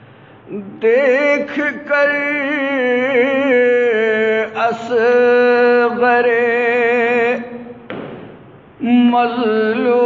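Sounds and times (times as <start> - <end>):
man singing unaccompanied: 0.5 - 7.9, 8.8 - 10.0.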